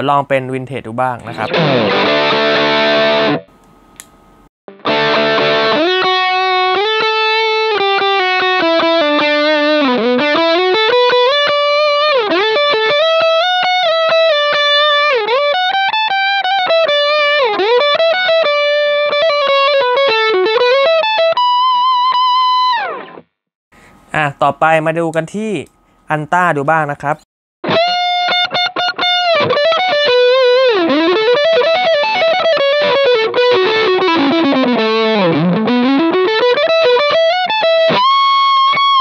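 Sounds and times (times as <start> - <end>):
distorted electric guitar: 1.2 - 3.5, 4.7 - 23.3, 27.6 - 39.0.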